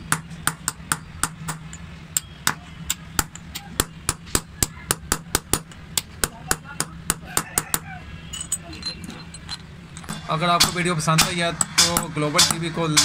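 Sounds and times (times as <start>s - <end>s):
hammer tapping metal punch: 0.0s - 7.8s, 8.4s - 13.0s.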